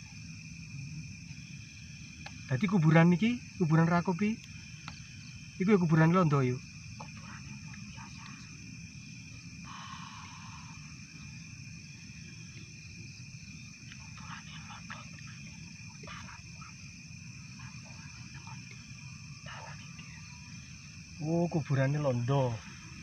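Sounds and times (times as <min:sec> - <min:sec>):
night insects chirring: 0:00.0 - 0:23.0.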